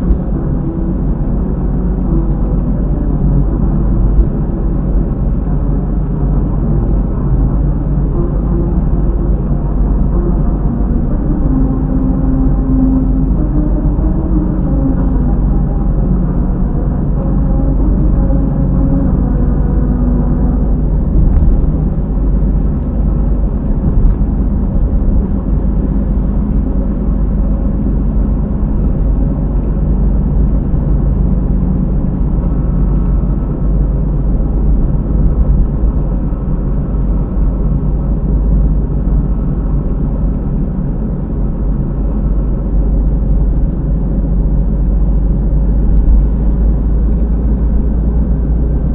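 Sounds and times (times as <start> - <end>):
melody road tones from tyres: 0.0 - 48.9
noise near rear tyre: 0.0 - 48.9
tyre and road drone: 0.0 - 48.9.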